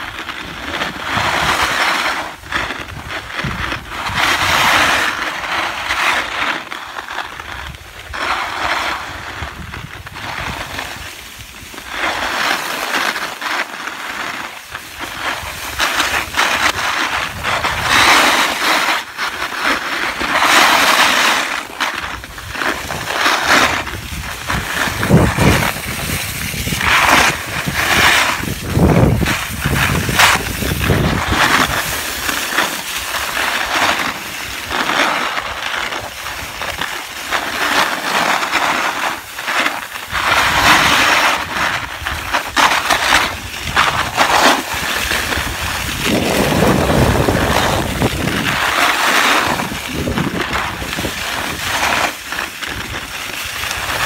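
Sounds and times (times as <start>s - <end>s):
wind rumble on microphone: 0.0s - 6.4s, 7.4s - 12.4s, 14.8s - 18.9s, 22.0s - 39.3s, 40.0s - 54.0s
skis scraping over snow: 0.0s - 54.0s.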